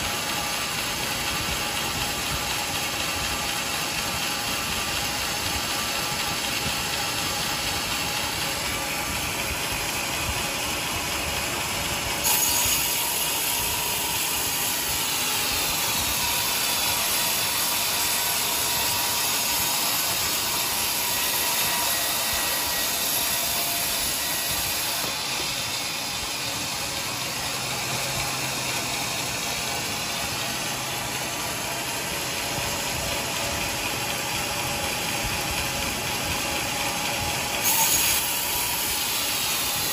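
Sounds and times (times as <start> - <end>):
band saw blade cutting wood: 0.0 - 39.9
sawmill machine running: 0.0 - 39.9.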